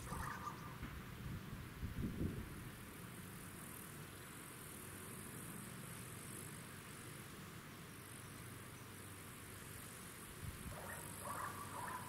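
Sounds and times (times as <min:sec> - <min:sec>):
insects chirring: 0:00.0 - 0:00.8, 0:03.1 - 0:12.0.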